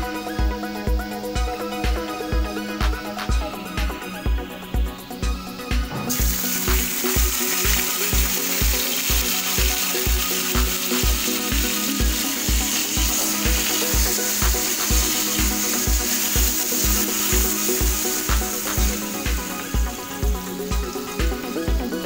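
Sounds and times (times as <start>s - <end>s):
background music with steady beat: 0.0s - 22.0s
garlic sizzling in hot oil: 0.0s - 22.0s.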